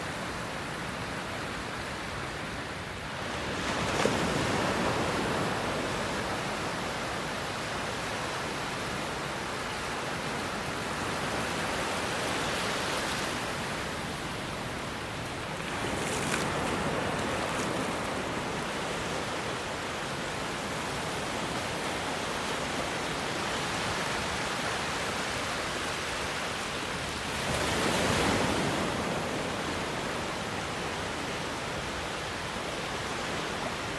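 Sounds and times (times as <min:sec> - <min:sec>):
ocean waves breaking on shore: 0:00.0 - 0:33.9.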